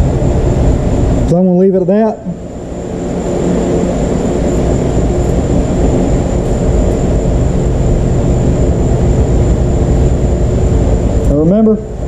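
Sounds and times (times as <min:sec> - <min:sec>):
loud background drone: 0:00.0 - 0:12.0.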